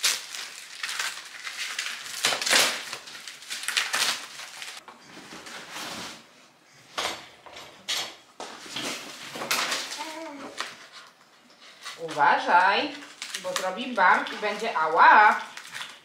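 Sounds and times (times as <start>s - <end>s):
plastic wrapping rustling: 0.0s - 6.5s, 8.5s - 16.0s.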